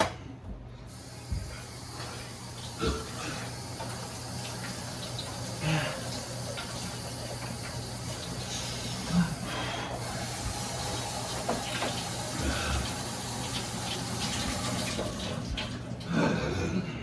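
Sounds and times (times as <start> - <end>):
water running from tap: 0.9 - 16.4.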